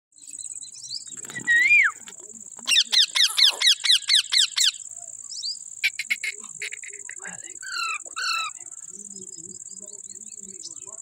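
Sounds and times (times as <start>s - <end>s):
high insect trill: 0.2s - 11.0s.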